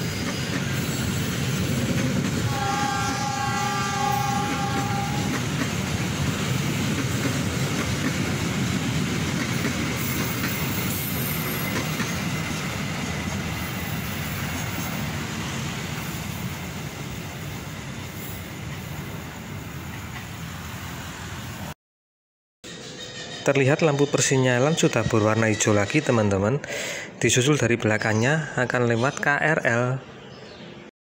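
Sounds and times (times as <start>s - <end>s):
train running past on rails: 0.0s - 21.8s, 22.7s - 26.4s.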